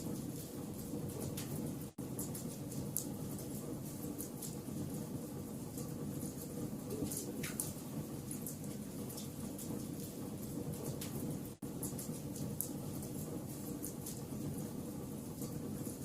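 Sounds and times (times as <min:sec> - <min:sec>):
fire crackles and pops: 0:00.0 - 0:16.0
flames rumbling: 0:00.0 - 0:16.0.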